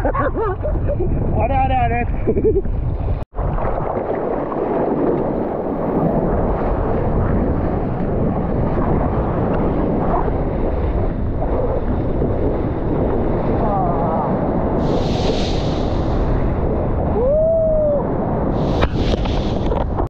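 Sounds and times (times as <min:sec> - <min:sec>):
strong wind buffeting microphone: 0:00.0 - 0:20.0
surf rushing: 0:03.4 - 0:20.0.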